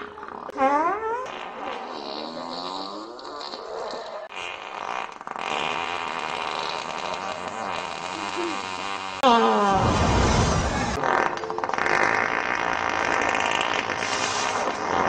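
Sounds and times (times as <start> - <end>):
farting: 0.0 - 15.0.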